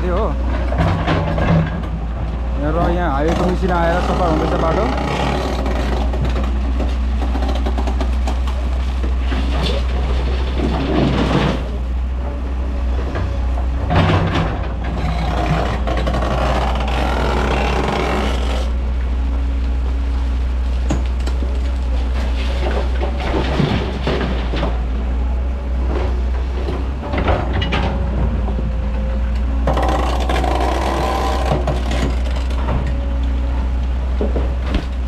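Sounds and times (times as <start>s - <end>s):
heavy diesel engines rumbling: 0.0s - 35.0s.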